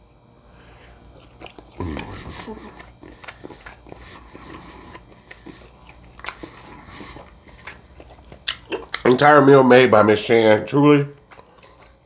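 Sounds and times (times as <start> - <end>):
person chewing food: 0.3 - 10.1, 11.0 - 12.0.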